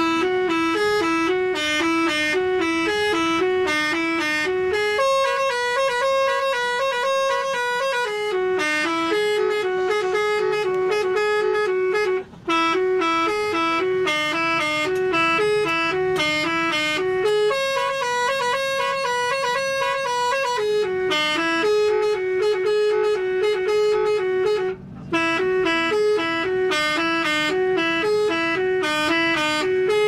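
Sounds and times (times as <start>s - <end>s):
bus air horns melody: 0.0s - 30.0s.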